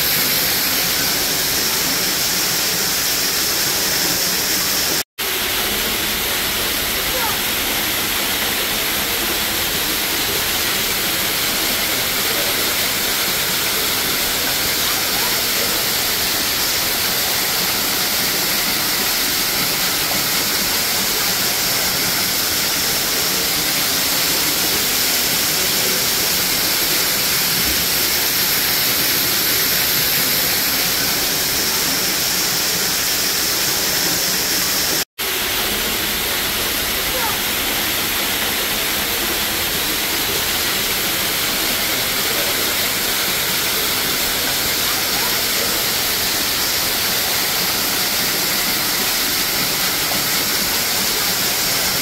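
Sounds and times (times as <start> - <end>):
waterfall splashing into pool: 0.0 - 52.0.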